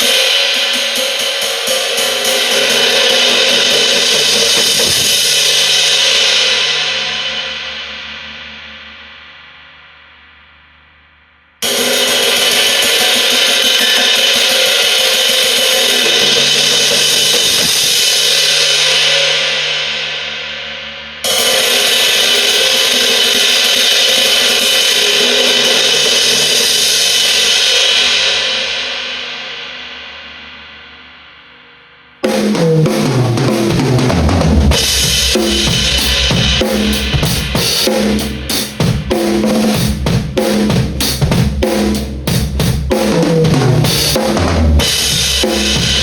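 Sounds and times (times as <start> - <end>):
crash cymbal struck: 0.0 - 10.5, 11.6 - 41.2.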